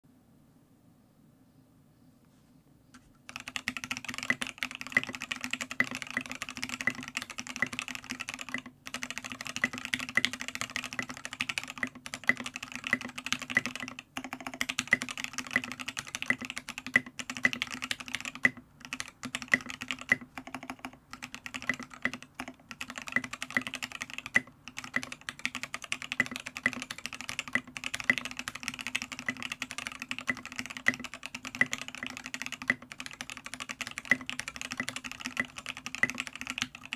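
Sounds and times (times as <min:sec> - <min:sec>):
fast keyboard typing: 0:03.3 - 0:36.9.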